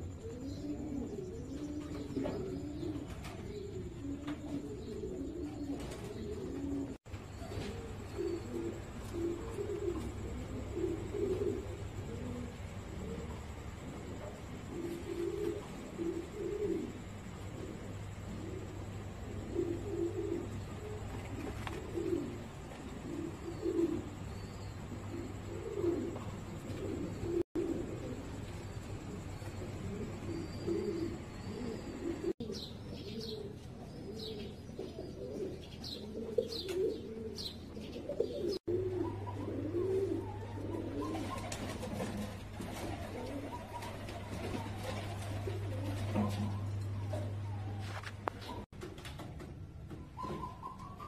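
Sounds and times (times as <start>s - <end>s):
pigeons cooing: 0.0s - 48.7s, 49.9s - 51.0s.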